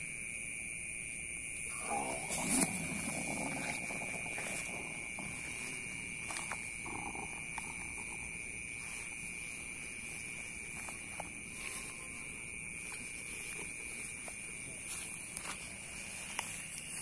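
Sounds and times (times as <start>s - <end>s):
night insects droning: 0.0s - 17.0s.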